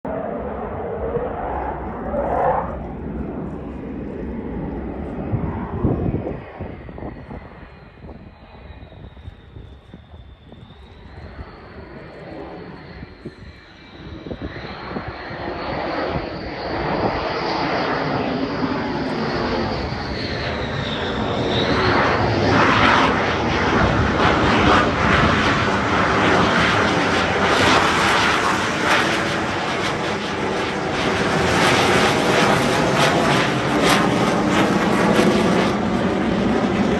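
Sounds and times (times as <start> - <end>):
fighter jet engine roar: 0.0 - 36.9.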